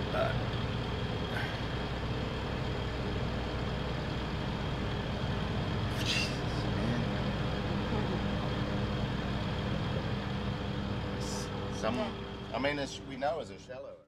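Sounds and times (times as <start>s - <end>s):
boat engines idling: 0.0s - 14.0s.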